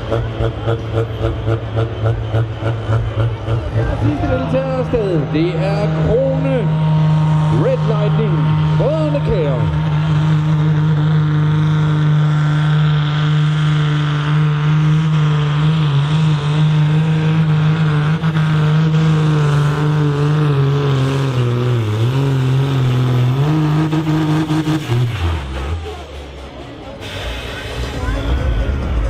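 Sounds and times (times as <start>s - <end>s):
tractor diesel engine at full load: 0.0s - 29.0s.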